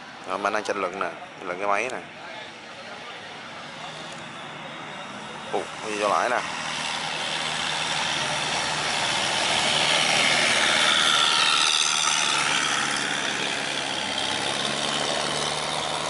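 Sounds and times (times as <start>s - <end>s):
boat engine passing: 2.4s - 16.0s.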